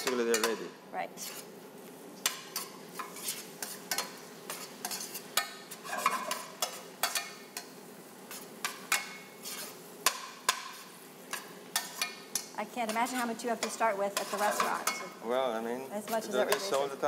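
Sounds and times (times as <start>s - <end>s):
metal tongs scraping pan: 0.0s - 0.6s, 1.2s - 1.5s, 2.2s - 15.2s
spinach sizzling in oil: 0.0s - 17.0s.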